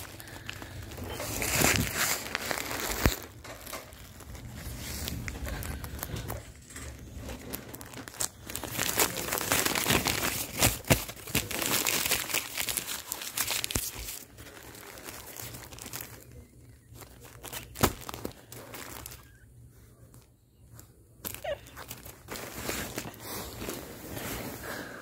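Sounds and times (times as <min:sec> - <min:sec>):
plastic bag crinkling: 0:00.0 - 0:19.5, 0:21.2 - 0:24.9.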